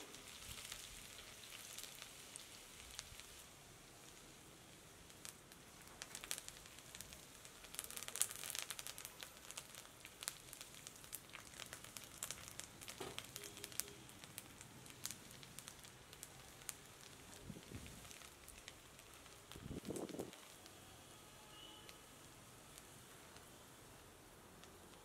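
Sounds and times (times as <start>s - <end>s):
food crackling and popping: 0.0s - 25.0s
low hiss: 0.0s - 25.0s.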